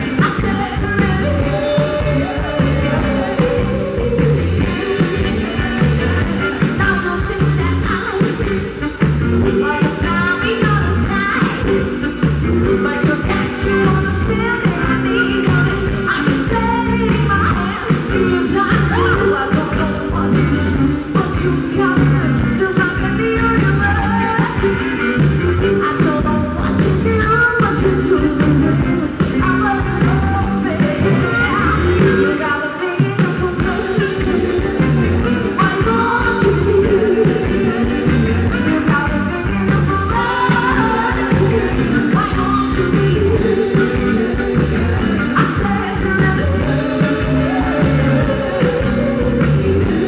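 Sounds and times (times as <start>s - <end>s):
women singing: 0.0s - 8.8s, 9.4s - 24.9s, 25.6s - 50.0s
bass guitar: 0.0s - 50.0s
drums: 0.0s - 50.0s
electric guitar: 0.0s - 50.0s.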